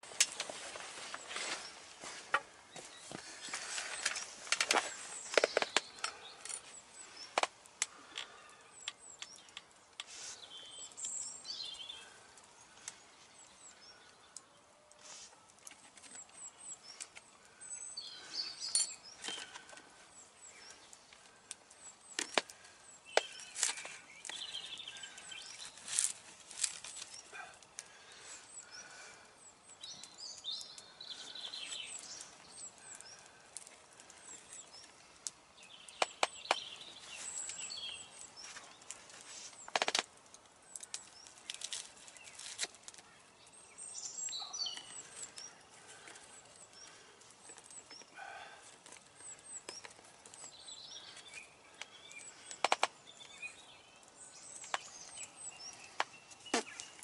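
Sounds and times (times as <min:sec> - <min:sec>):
birds chirping: 0:00.0 - 0:57.0
campfire crackling: 0:00.0 - 0:57.0.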